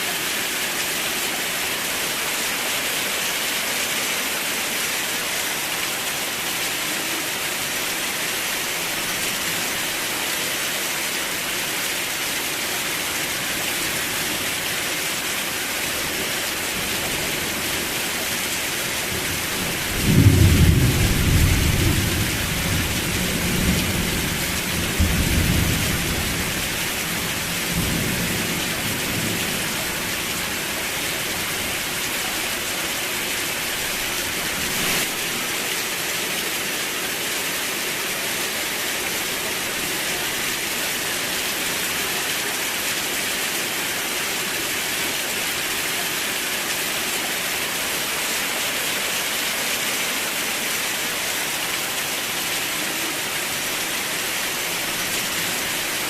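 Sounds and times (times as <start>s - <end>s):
rain hissing: 0.0s - 56.0s.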